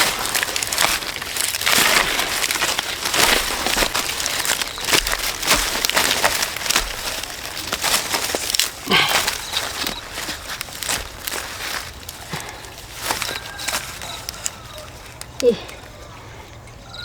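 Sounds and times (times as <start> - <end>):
crunching and crackling: 0.0 - 17.0.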